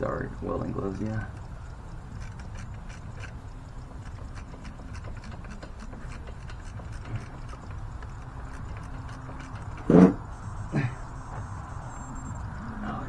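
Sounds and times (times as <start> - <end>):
tools clicking and tapping: 0.0 - 12.6
low steady hum: 0.0 - 13.0.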